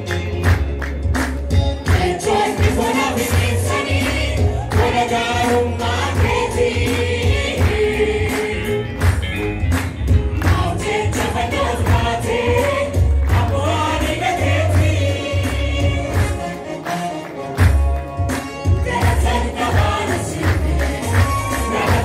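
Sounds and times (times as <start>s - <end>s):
percussion beat with heavy bass: 0.0s - 16.6s, 17.6s - 22.0s
choir singing gospel music: 1.6s - 22.0s.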